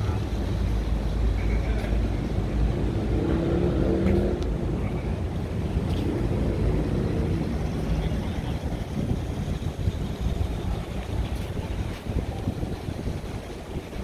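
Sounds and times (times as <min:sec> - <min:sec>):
wind buffeting microphone: 0:02.4 - 0:14.0.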